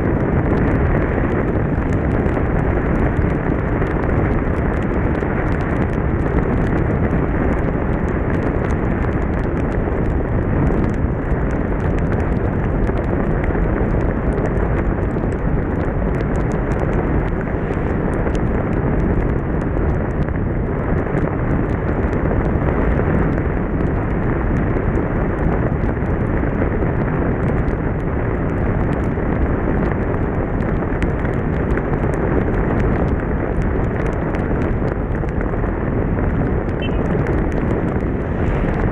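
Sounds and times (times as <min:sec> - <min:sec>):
motorcycle engine and tyre noise: 0:00.0 - 0:38.9
raindrops ticking on camera: 0:00.0 - 0:38.9
wind rush on microphone: 0:00.0 - 0:38.9.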